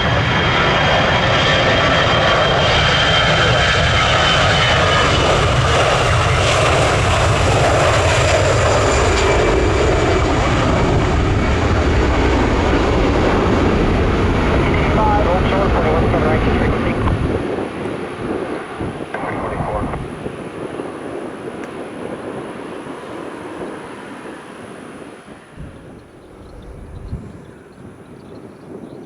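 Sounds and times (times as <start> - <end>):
high engine whine: 0.0 - 29.0
jet engines roaring: 0.0 - 29.0.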